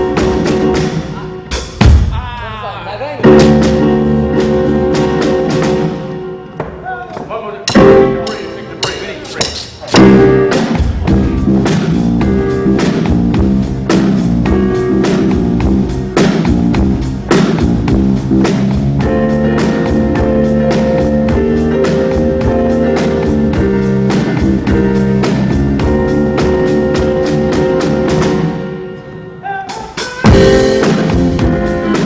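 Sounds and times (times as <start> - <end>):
keyboard chords: 0.0 - 1.8, 3.2 - 6.9, 7.6 - 32.0
drum kit funk groove: 0.0 - 28.7, 29.6 - 32.0.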